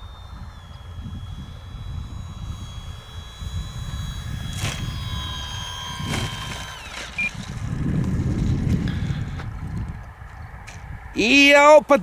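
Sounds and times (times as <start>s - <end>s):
model plane motor whining: 0.0s - 11.4s
wind rumble on microphone: 0.0s - 12.0s.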